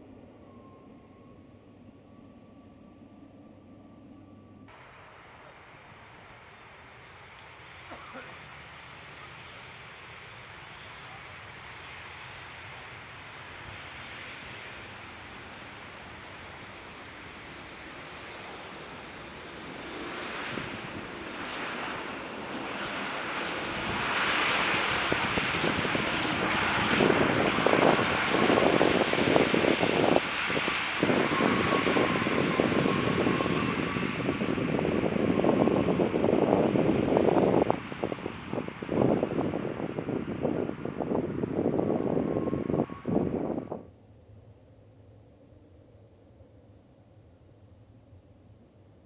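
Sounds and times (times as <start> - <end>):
high engine whine: 0.0 - 11.3, 14.6 - 46.5
jet airliner engine roar: 0.0 - 49.0.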